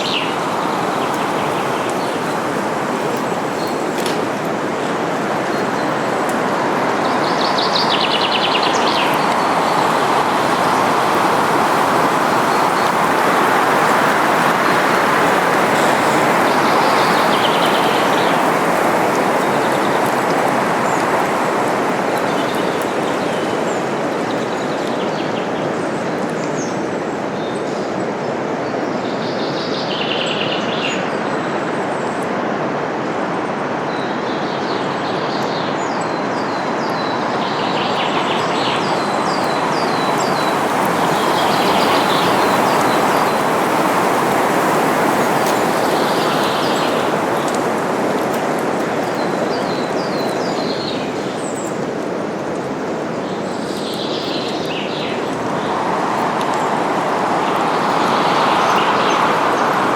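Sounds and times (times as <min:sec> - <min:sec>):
songbirds chirping: 0:00.0 - 0:59.9
wind through foliage: 0:00.0 - 0:59.9.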